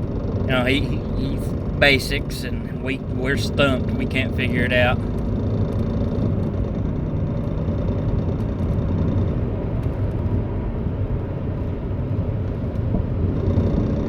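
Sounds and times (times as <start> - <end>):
car interior road drone: 0.0 - 14.0.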